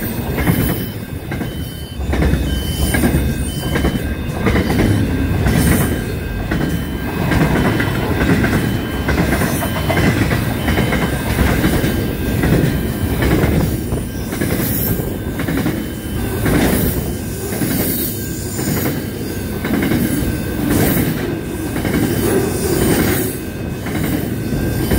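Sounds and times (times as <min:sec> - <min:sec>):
freight train rumbling past: 0:00.0 - 0:24.9.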